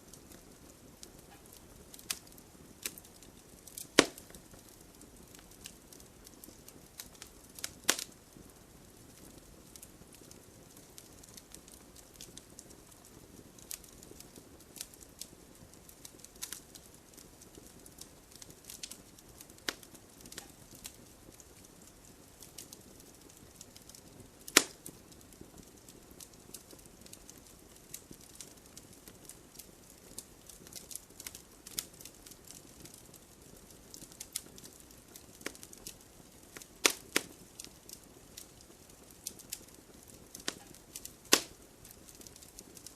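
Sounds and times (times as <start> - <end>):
fire snaps and pops: 0.0 - 42.9
wood fire crackling: 0.0 - 42.9.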